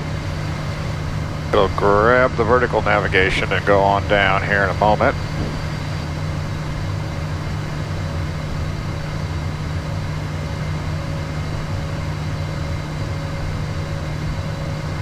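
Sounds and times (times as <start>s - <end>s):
faint constant tones: 0.0s - 15.0s
jet cockpit drone in flight: 0.0s - 15.0s.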